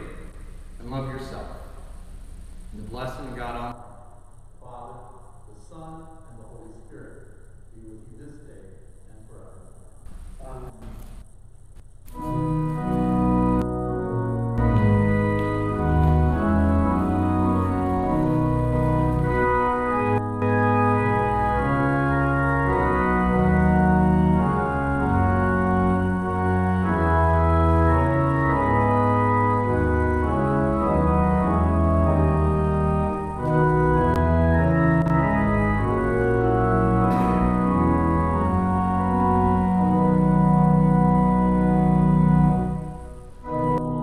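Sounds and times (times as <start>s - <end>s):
church organ chords: 0.0s - 44.0s.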